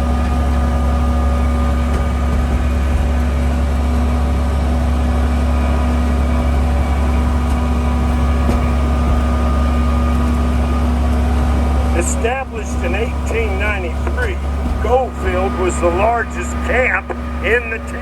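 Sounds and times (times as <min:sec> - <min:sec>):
train engine droning: 0:00.0 - 0:18.0.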